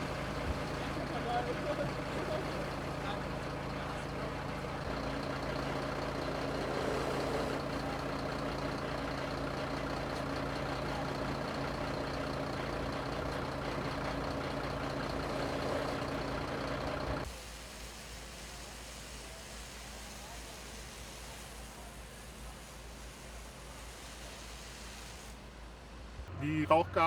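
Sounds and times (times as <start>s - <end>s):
heavy vehicle engine running: 0.0s - 27.0s.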